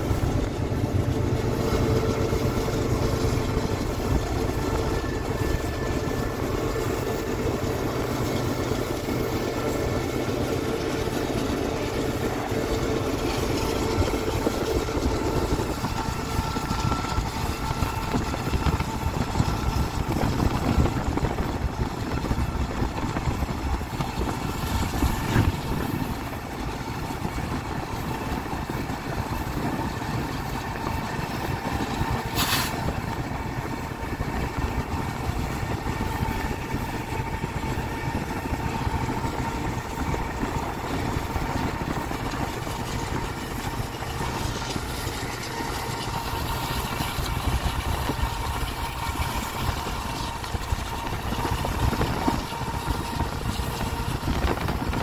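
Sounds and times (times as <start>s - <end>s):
diesel locomotives rumbling: 0.0s - 55.0s.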